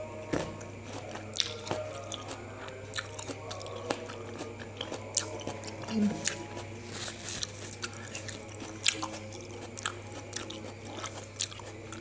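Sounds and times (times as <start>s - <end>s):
person chewing wetly: 0.0s - 12.0s
steady low hum: 0.0s - 12.0s.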